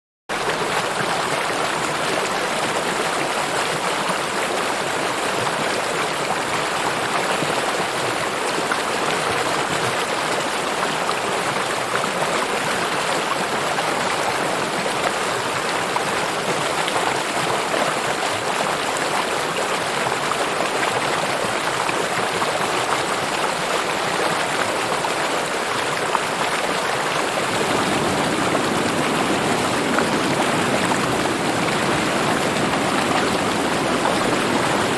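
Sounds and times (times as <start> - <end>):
river water rushing: 0.4 - 34.9.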